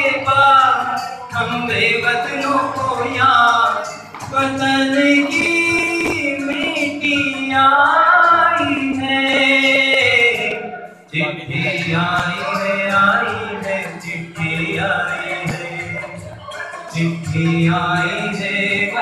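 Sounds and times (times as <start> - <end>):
man singing into microphone: 0.0 - 19.0.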